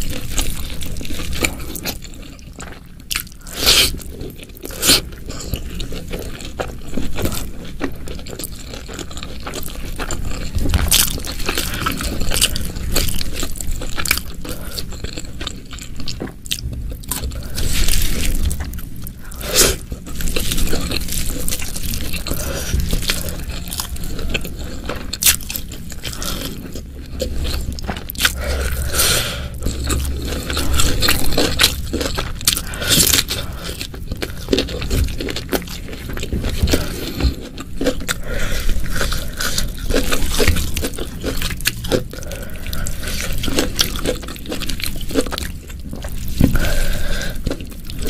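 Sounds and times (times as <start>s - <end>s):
person chewing crunchy food: 0.0s - 48.0s.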